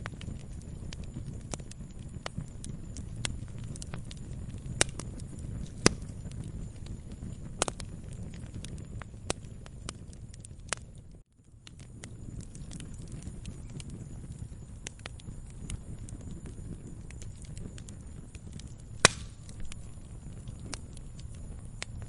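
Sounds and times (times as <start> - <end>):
campfire crackling: 0.0 - 22.0
sharp pops of burning wood: 0.0 - 22.0.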